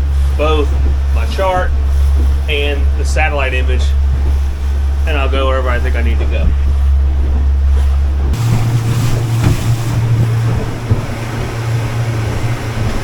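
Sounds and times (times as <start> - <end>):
boat motor droning: 0.0 - 13.0
wind and water rushing: 0.0 - 13.0.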